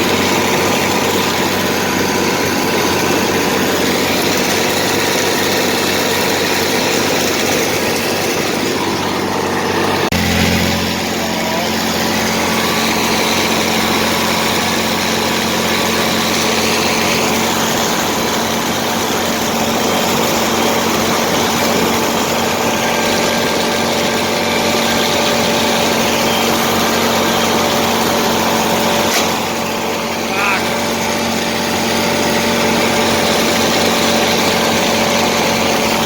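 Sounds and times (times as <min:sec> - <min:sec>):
cutting machinery: 0:00.0 - 0:36.0
tractor engine running: 0:00.0 - 0:36.0.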